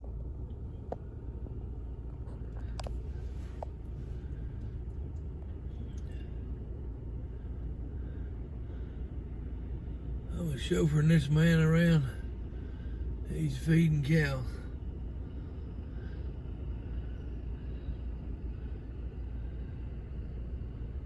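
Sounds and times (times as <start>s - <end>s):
vehicle engine rumble inside cab: 0.0s - 21.0s.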